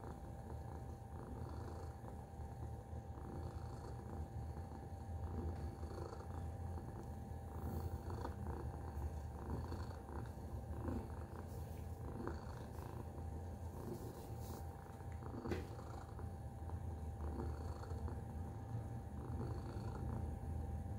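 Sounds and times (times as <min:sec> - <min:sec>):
cat purring: 0:00.0 - 0:20.9.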